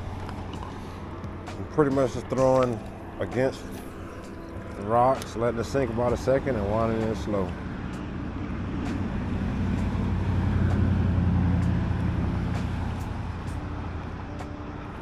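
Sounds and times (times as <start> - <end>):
vehicle passing by humming: 0.0 - 15.0.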